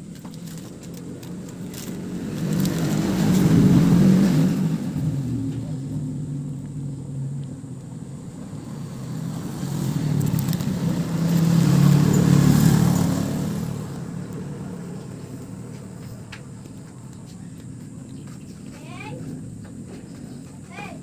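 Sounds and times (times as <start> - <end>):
motor vehicle passing by: 0.0 - 20.9.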